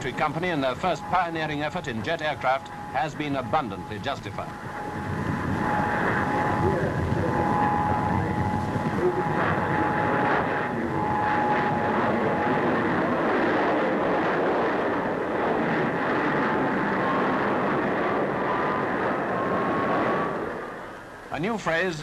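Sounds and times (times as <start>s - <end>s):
jet flying past low: 0.0s - 21.9s.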